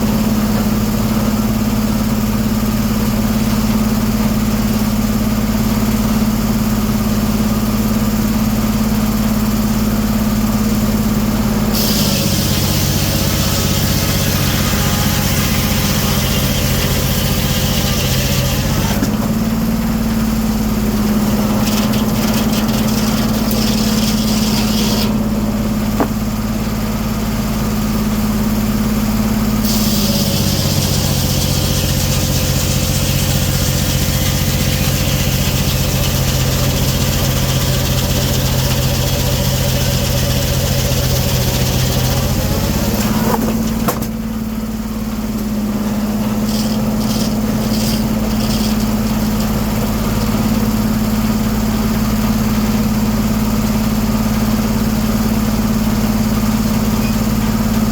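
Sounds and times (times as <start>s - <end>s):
sawmill engine running: 0.0s - 57.9s
circular saw cutting log: 9.0s - 57.9s.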